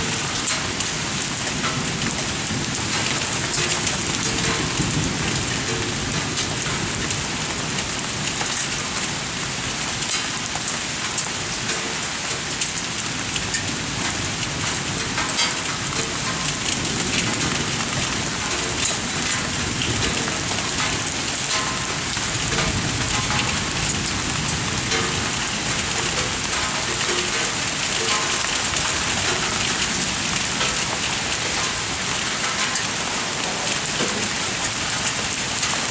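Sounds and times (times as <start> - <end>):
heavy rain pelting surfaces: 0.0 - 35.9.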